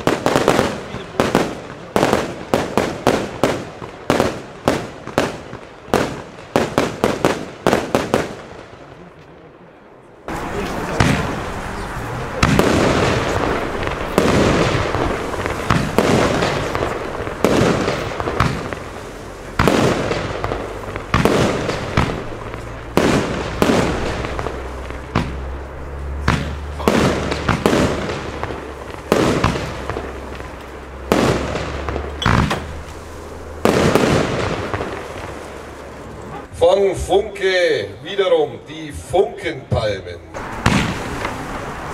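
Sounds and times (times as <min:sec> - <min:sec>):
firework shots banging: 0:00.0 - 0:09.0, 0:10.3 - 0:37.2, 0:39.7 - 0:41.9.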